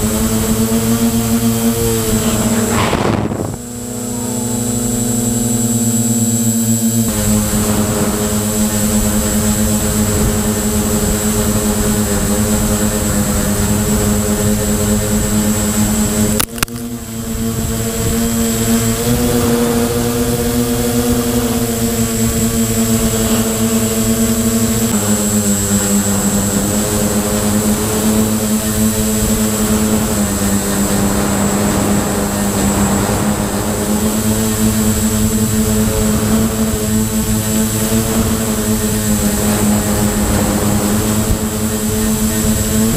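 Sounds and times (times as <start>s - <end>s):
drone motors humming and whining: 0.0s - 42.9s.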